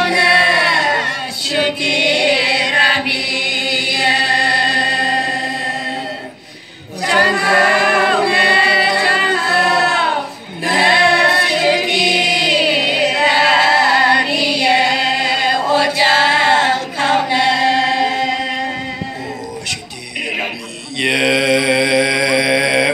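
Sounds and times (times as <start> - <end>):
women singing unaccompanied: 0.0 - 19.4.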